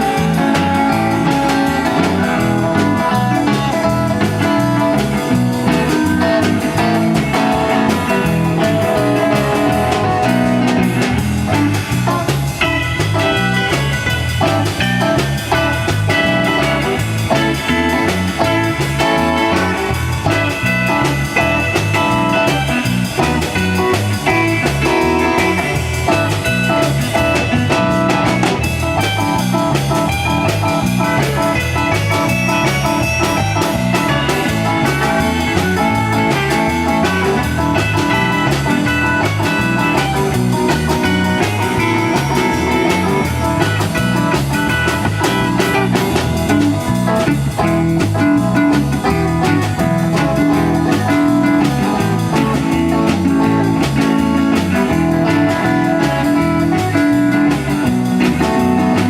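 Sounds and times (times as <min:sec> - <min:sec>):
blues rock band playing: 0:00.0 - 0:59.0
electric guitar: 0:00.0 - 0:59.0.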